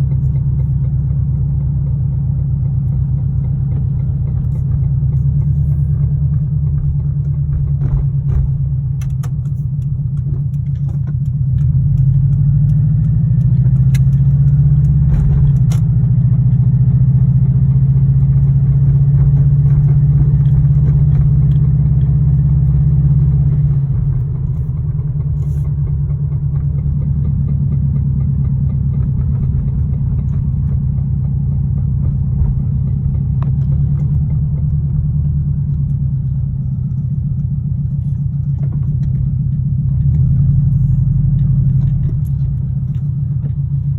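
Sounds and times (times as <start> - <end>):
car engine with rhythmic knock: 0.0 - 43.9.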